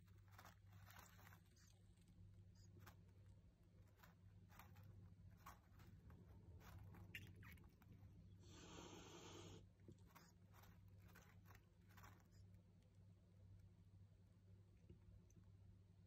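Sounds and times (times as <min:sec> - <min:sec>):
soft hissing rustle: 0:00.0 - 0:13.6
faint low hum: 0:00.0 - 0:16.0.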